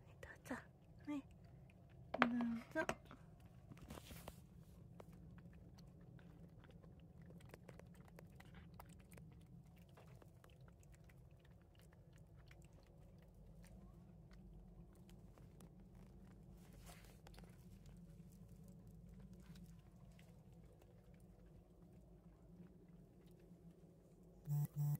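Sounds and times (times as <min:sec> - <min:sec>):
low steady hum: 0:00.0 - 0:24.9
cats chewing and licking: 0:00.1 - 0:24.5.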